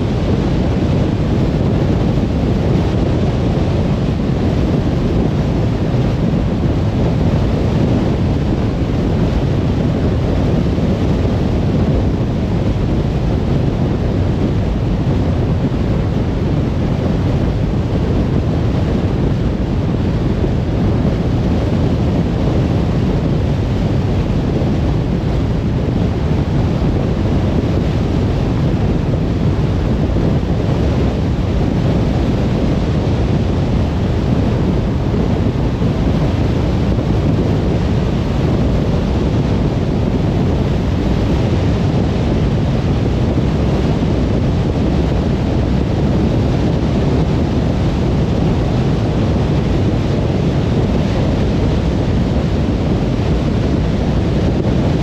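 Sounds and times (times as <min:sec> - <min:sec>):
car road noise on motorway: 0:00.0 - 0:55.0.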